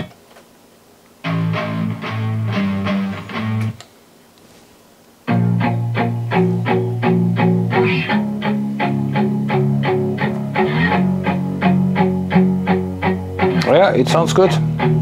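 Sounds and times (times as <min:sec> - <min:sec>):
guitar music: 0:01.2 - 0:03.8, 0:05.3 - 0:15.0.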